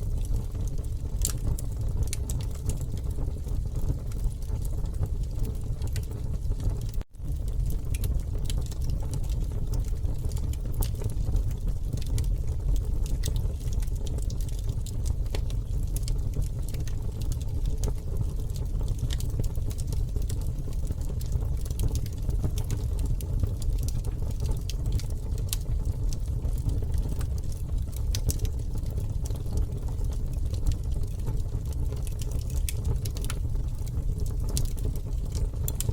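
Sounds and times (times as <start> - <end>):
campfire crackles and pops: 0.0 - 35.9
low fire rumble: 0.0 - 35.9.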